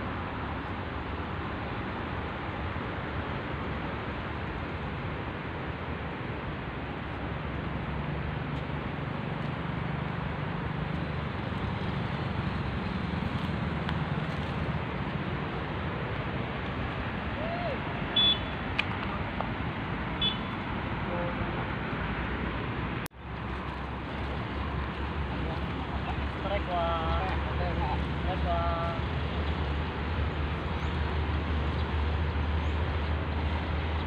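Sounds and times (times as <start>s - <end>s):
low rumble and hiss: 0.0s - 34.0s.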